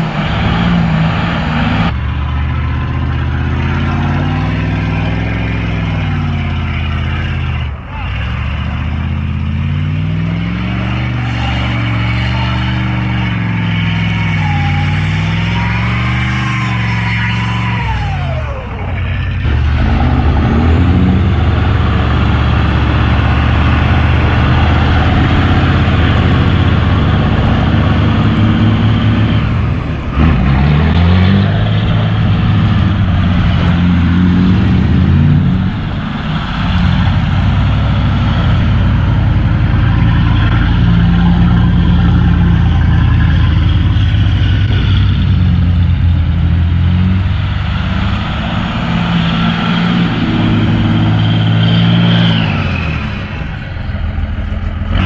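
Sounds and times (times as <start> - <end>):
diesel truck engine: 0.0 - 55.0.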